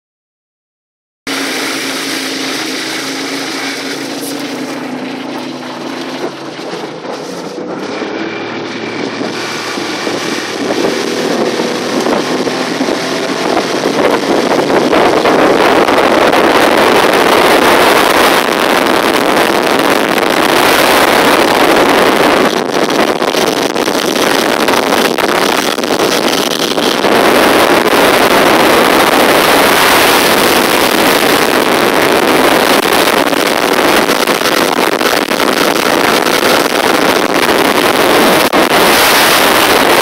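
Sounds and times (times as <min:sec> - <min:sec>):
outboard motor hum: 0:01.3 - 0:40.0
water rushing: 0:01.3 - 0:40.0
wind on microphone: 0:01.3 - 0:40.0.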